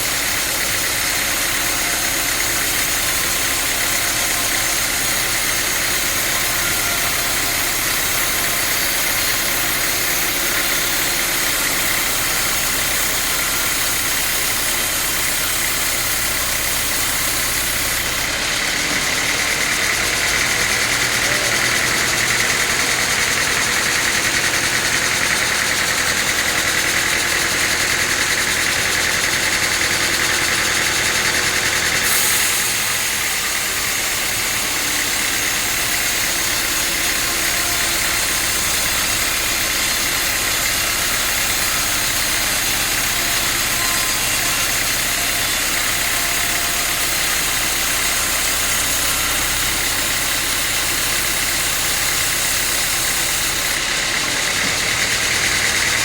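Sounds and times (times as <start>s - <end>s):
sawmill machinery sawing wood: 0.0s - 56.0s.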